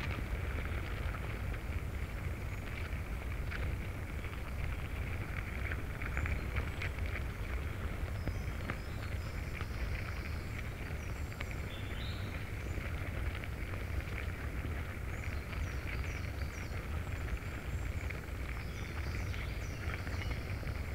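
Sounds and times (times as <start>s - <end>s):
ants crackling rustle: 0.0s - 20.9s.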